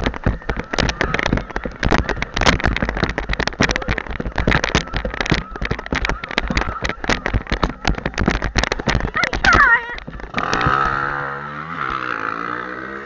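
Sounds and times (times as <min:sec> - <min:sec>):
quad engines crackling: 0:00.0 - 0:13.0.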